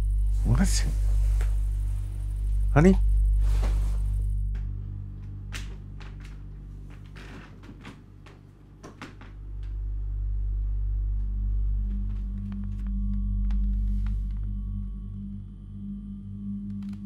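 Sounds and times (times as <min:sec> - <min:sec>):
low steady drone: 0:00.0 - 0:08.4, 0:09.2 - 0:17.0.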